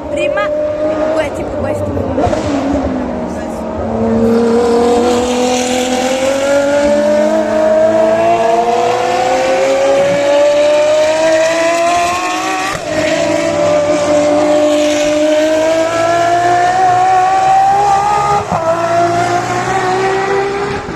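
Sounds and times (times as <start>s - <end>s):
car engine at full throttle: 0.0s - 20.9s.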